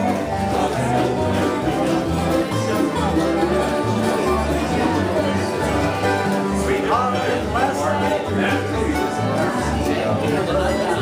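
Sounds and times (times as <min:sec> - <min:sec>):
fiddle: 0:00.0 - 0:11.0
mandolin: 0:00.0 - 0:11.0
strummed guitars: 0:00.0 - 0:11.0
upright bass plucking: 0:00.0 - 0:11.0.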